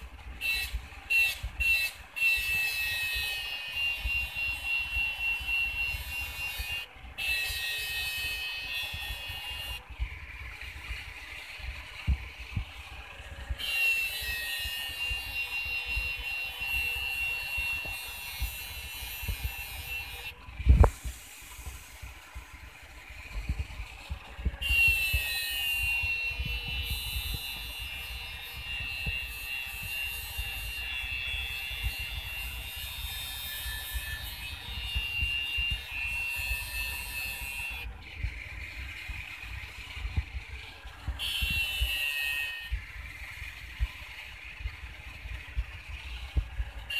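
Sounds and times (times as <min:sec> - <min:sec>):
angle grinder grinding steel blade: 0:02.3 - 0:22.3, 0:23.0 - 0:46.9.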